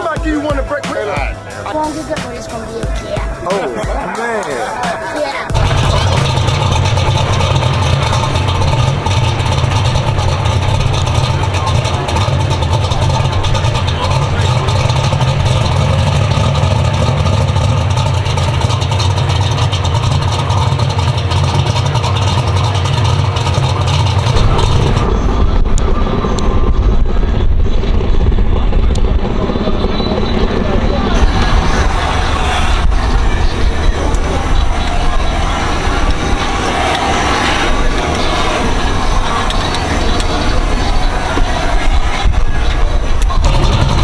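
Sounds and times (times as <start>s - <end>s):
loud car engine running: 4.8s - 44.0s.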